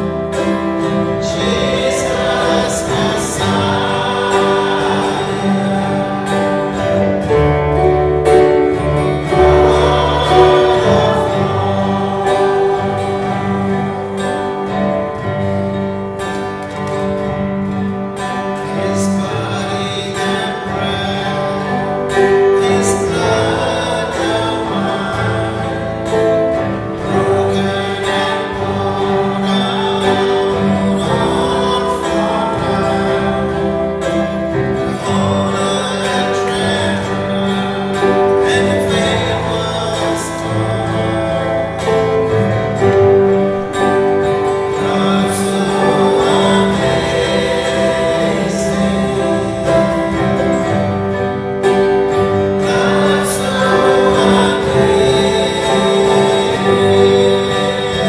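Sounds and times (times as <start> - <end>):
keyboard: 0.0 - 58.0
people singing a hymn: 0.0 - 58.0
second guitar: 0.0 - 58.0
strummed acoustic guitar: 0.0 - 58.0.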